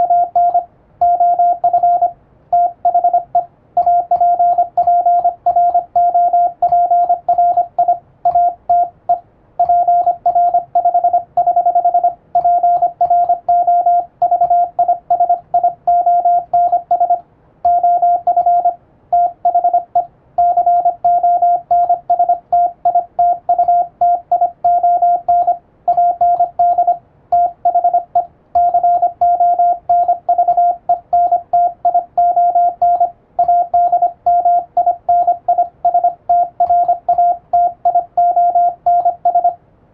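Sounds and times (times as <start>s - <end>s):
morse code beeps: 0.0s - 39.6s.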